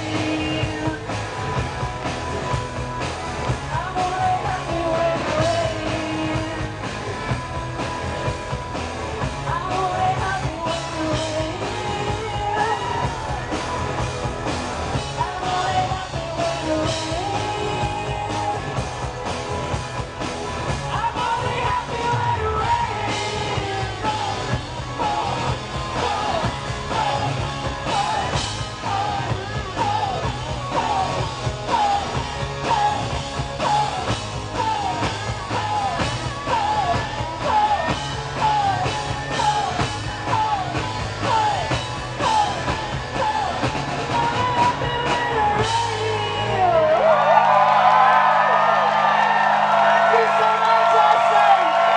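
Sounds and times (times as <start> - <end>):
drums: 0.0 - 51.9
live rock band playing loudly: 0.0 - 51.9.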